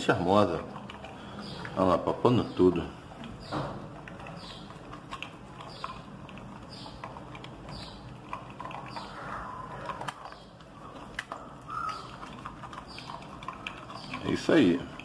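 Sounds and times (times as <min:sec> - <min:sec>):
puppy crunching kibble: 0:00.0 - 0:15.0.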